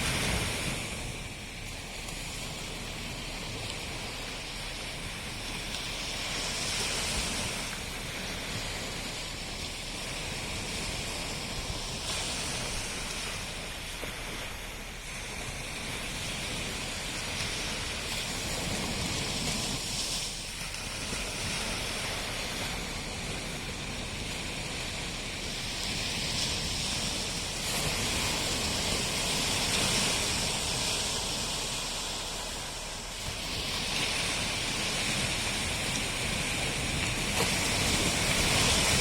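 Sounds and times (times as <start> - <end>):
sea waves washing ashore: 0.0 - 39.0.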